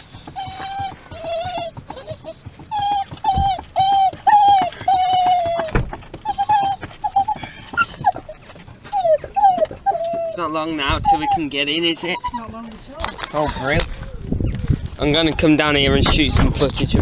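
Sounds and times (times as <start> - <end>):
dog whining: 0.0 - 16.7.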